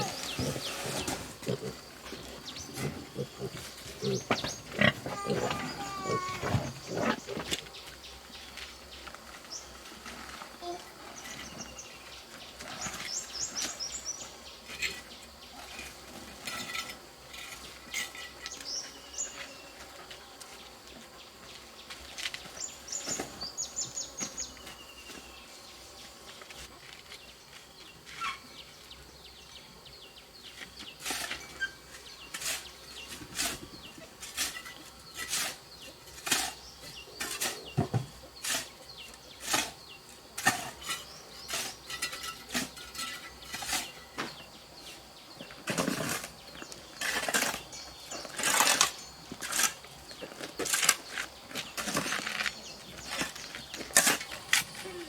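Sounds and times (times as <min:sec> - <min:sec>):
birds chirping: 0:00.0 - 0:15.9, 0:16.5 - 0:55.0.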